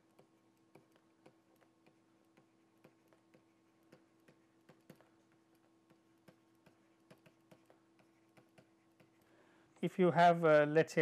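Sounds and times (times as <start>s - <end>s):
stylus tapping on tablet: 0.0s - 9.2s
faint steady hum: 0.0s - 11.0s.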